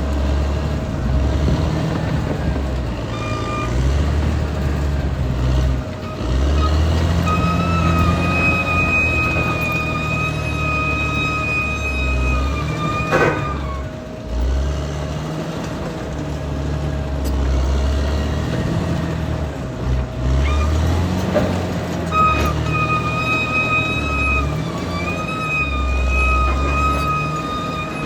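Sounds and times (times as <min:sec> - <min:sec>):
bulldozer diesel engine rumbling: 0:00.0 - 0:28.0.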